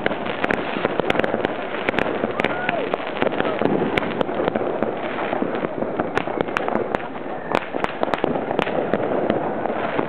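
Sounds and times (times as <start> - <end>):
distant fireworks din: 0.0 - 10.0
firecrackers cracking and popping: 0.0 - 10.0.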